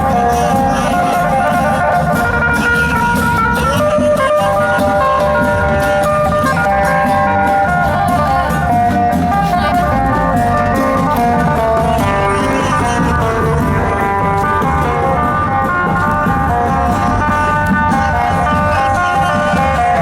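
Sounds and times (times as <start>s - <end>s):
plucked-string melody: 0.0s - 20.0s
steady drum beat: 0.0s - 20.0s.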